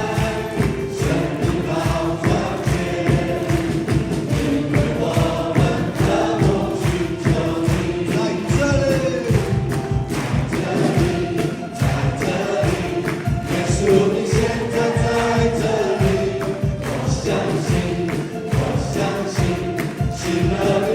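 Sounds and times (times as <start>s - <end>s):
voices singing together: 0.0s - 20.9s
worship band playing: 0.0s - 20.9s.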